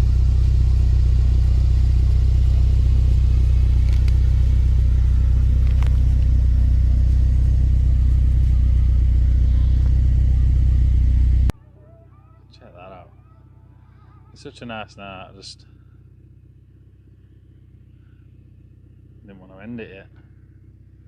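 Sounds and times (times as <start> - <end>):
car engine running at steady revs: 0.0 - 11.6, 12.7 - 21.0.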